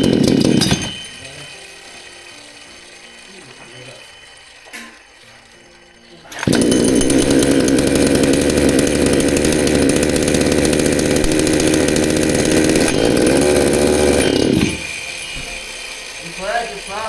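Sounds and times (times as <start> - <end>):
chainsaw engine running: 0.0 - 4.1, 6.2 - 17.0.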